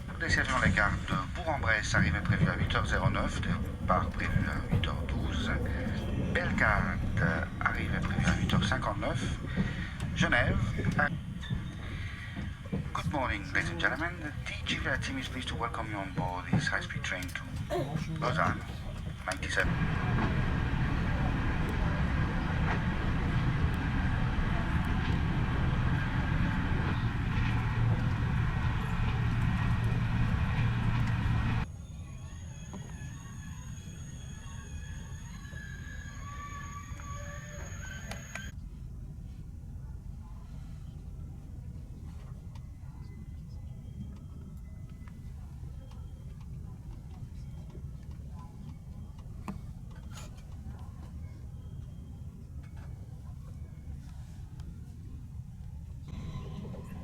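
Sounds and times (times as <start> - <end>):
train low rumble: 0.0 - 57.0.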